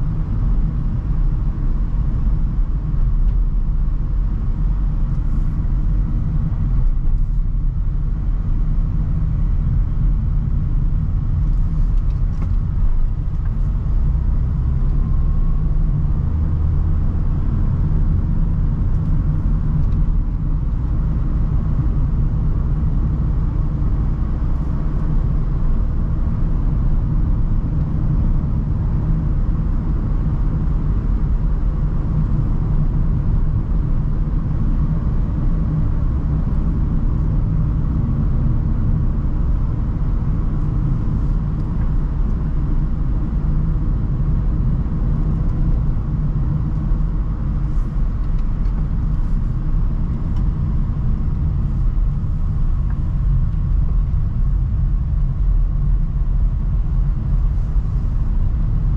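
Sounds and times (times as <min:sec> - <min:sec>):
van road and engine rumble: 0:00.0 - 0:58.9.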